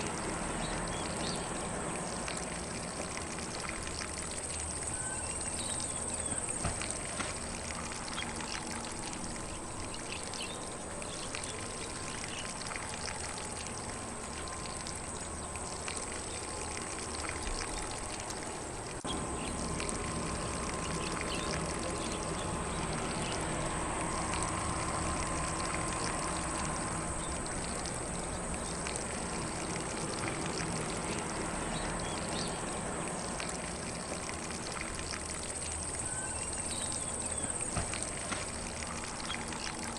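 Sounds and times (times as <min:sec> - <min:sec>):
faint birdsong: 0:00.0 - 0:24.5, 0:25.1 - 0:39.9
sprinkler spraying water: 0:00.0 - 0:39.9.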